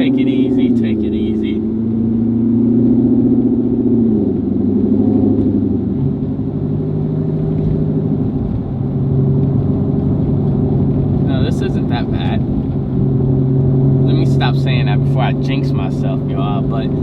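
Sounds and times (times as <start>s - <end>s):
car engine driving: 0.0s - 17.0s.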